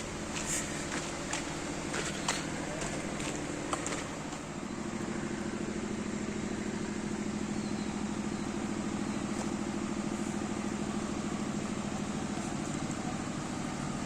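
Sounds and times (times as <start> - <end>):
engine running with pulsing note: 0.0 - 14.0.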